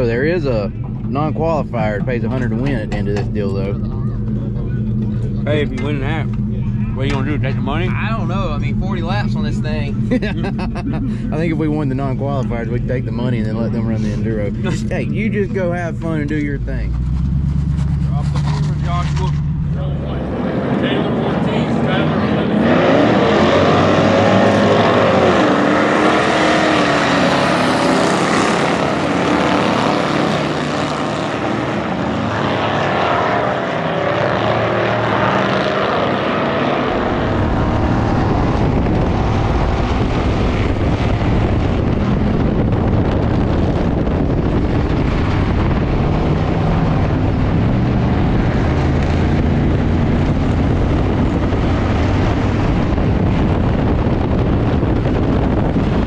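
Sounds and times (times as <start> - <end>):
car engine drone from inside: 0.0 - 56.0
race car engines revving: 0.0 - 56.0
wind noise: 0.0 - 56.0.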